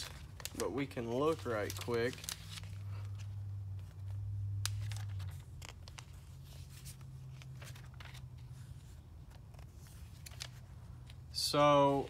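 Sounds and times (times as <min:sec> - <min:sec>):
paper pages rustling: 0:00.0 - 0:11.3
steady low hum: 0:00.0 - 0:12.0.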